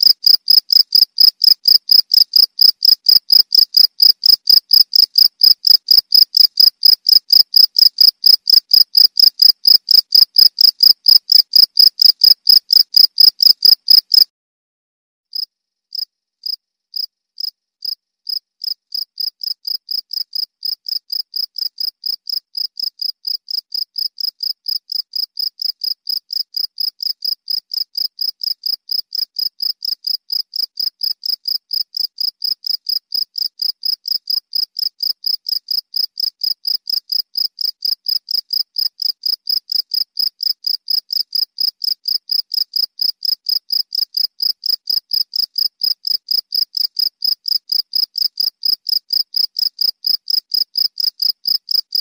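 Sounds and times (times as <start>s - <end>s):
cricket chirping: 0.0s - 14.2s, 15.4s - 51.9s.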